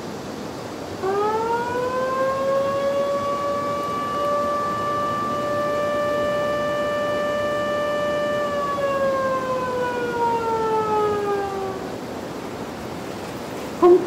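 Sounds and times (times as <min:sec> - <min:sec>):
warning siren: 0:01.0 - 0:12.3.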